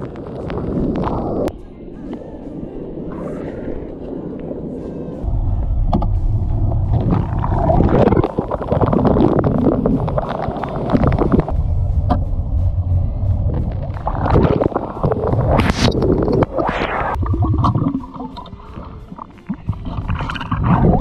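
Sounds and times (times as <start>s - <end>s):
underwater waterfall rumble: 0.0s - 1.5s, 3.1s - 21.0s.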